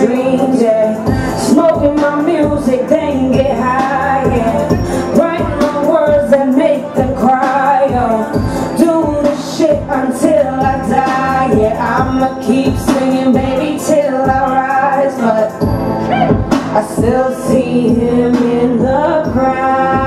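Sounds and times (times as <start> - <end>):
hip hop beat: 0.0 - 20.0
woman singing: 0.0 - 20.0.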